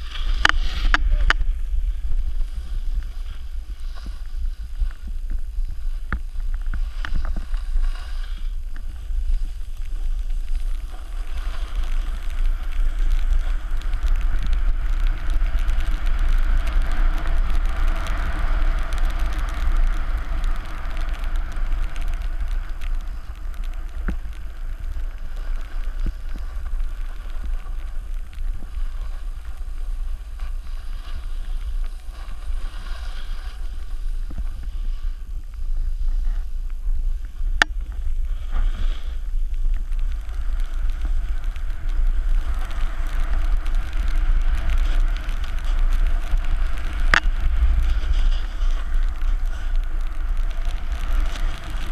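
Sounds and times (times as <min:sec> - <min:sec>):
hiss of snow under skis: 0:00.0 - 0:51.9
wind buffeting microphone: 0:00.0 - 0:51.9.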